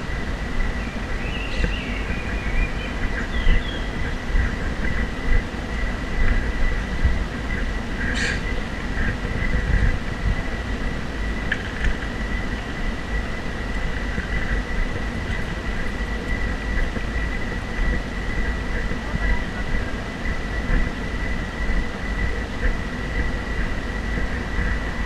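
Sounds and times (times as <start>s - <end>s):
thin high whine: 0.0s - 25.0s
wind buffeting microphone: 0.0s - 25.0s.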